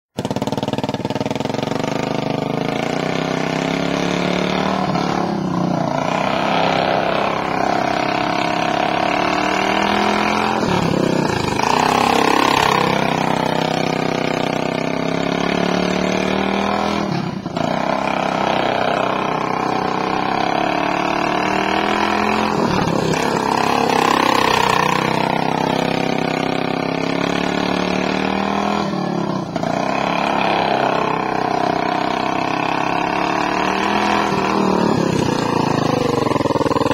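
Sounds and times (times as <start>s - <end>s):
lawn mower engines revving: 0.1s - 36.9s.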